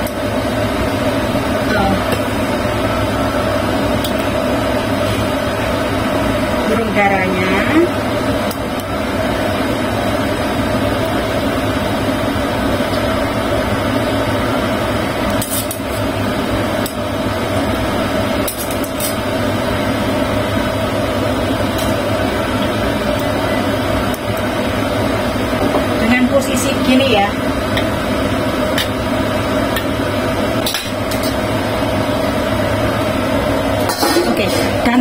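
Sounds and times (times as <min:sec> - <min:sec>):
stove and fan humming: 0:00.0 - 0:35.0.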